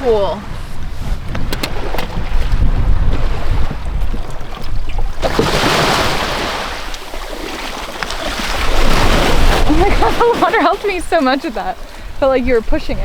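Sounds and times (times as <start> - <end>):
wind rumbling on microphone: 0.0 - 7.0, 8.0 - 13.0
seawater splash and rush: 0.0 - 13.0.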